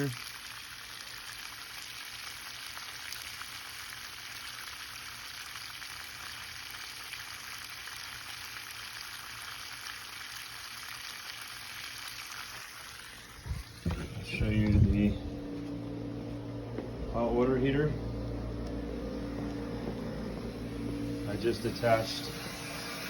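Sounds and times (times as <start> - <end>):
water rushing from drain valve: 0.0 - 15.4, 19.3 - 23.0.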